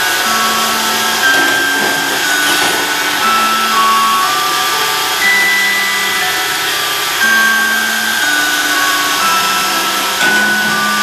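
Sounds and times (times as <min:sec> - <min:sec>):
robot vacuum whirring: 0:00.0 - 0:11.0
slow melody of held notes: 0:00.0 - 0:11.0.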